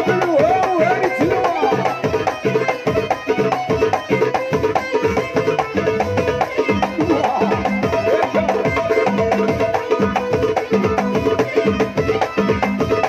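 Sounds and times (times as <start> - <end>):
goblet drum played by hand: 0.0 - 13.0.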